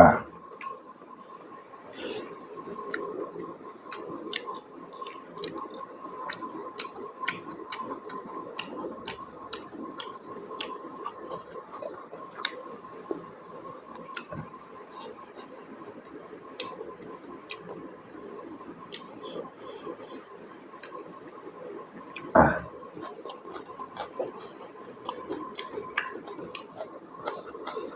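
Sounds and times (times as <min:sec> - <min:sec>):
faint high hum: 0:00.0 - 0:27.9
wet chewing and mouth smacks: 0:00.6 - 0:01.1, 0:01.9 - 0:13.1, 0:13.9 - 0:17.9, 0:18.9 - 0:27.9.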